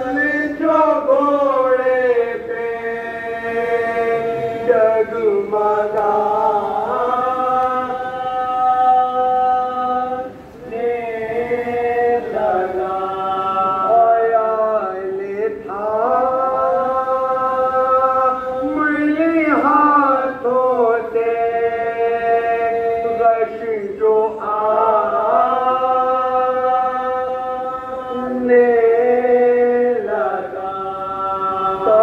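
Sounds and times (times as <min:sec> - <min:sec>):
men chanting a lament: 0:00.0 - 0:32.0.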